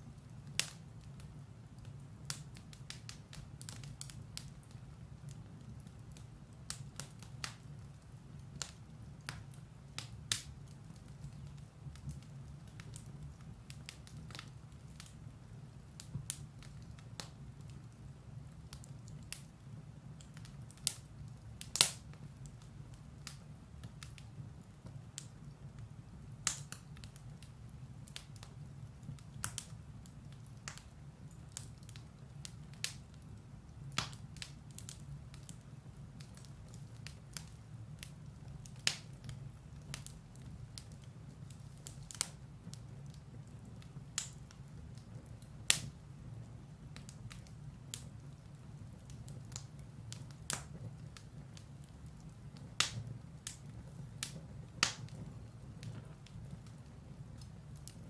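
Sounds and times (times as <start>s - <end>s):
logs crackling and popping: 0.1s - 58.0s.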